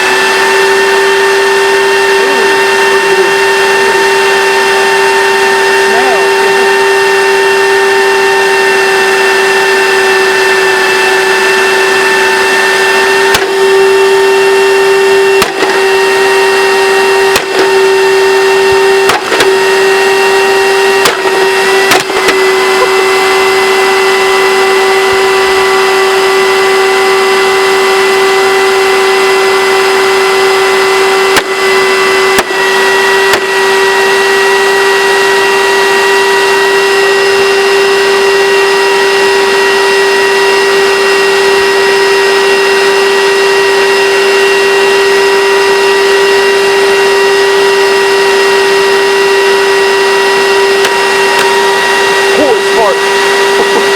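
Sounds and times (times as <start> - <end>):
vacuum cleaner motor whining: 0.0 - 53.9.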